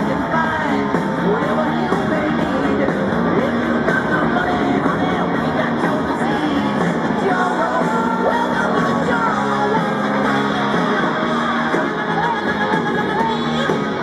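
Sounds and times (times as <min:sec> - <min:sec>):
rock music over loudspeakers: 0:00.0 - 0:14.0.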